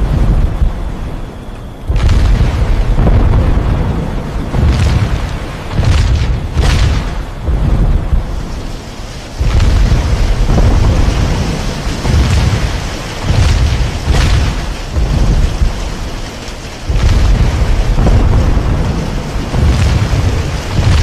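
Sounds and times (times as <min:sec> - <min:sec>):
hail and rain pelting down: 0:00.0 - 0:21.0
wind buffeting microphone: 0:00.0 - 0:21.0.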